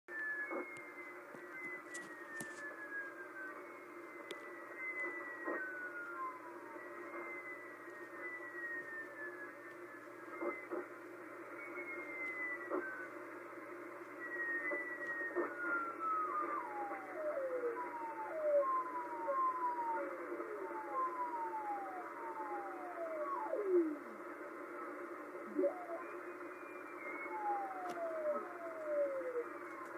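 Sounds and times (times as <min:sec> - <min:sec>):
descending radio pings: 0:00.1 - 0:29.9
radio static hiss: 0:00.4 - 0:29.9.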